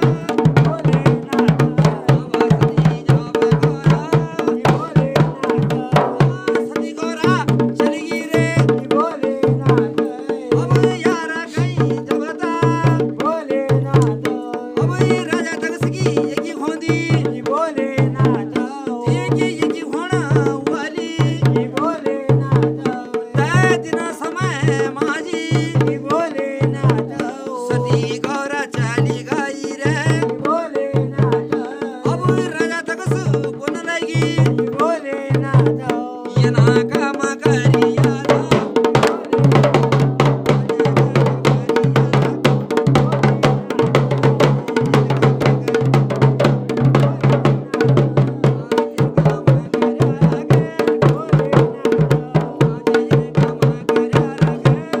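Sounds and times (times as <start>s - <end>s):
fast dense drumming: 0.0s - 55.0s
person singing: 0.0s - 55.0s
steady drum beat: 0.0s - 55.0s.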